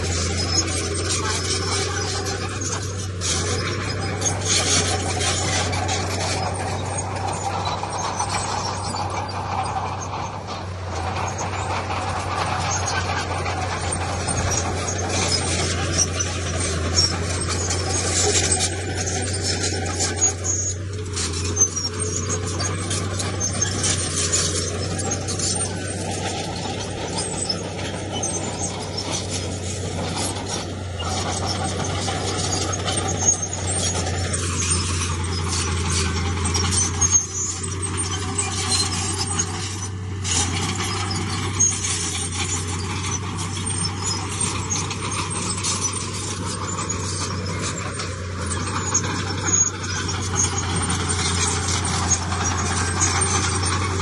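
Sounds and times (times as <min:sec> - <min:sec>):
bulldozer diesel engine: 0:00.0 - 0:54.0
tracks squeaking and clicking: 0:00.0 - 0:54.0.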